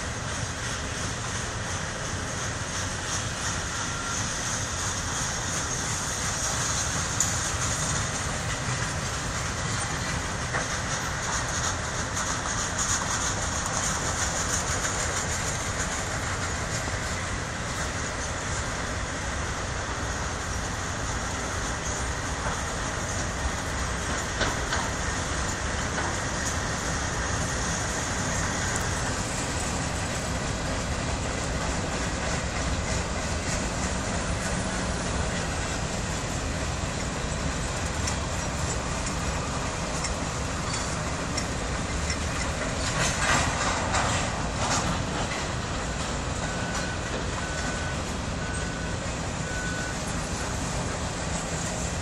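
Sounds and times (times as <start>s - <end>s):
wheel-on-rail noise: 0.0s - 52.0s
wheels clicking over rail joints: 0.0s - 52.0s
high hiss: 0.1s - 45.1s.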